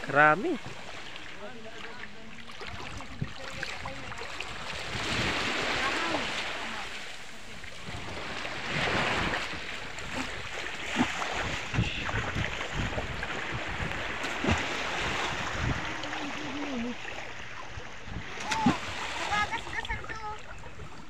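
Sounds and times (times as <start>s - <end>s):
small waves washing on shore: 0.0s - 21.0s
water sloshing around waders: 0.0s - 21.0s
wind buffeting microphone: 2.5s - 6.8s, 7.5s - 17.0s, 17.6s - 21.0s.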